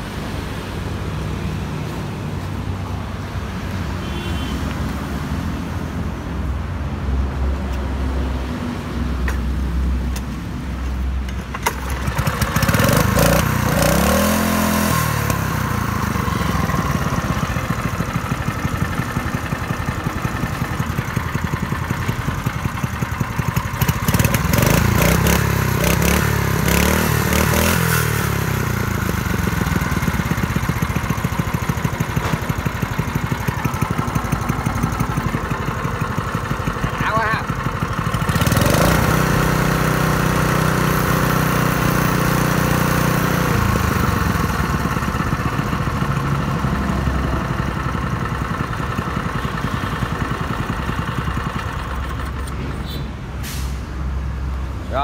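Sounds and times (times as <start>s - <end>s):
petrol engine running and revving: 0.0s - 55.0s.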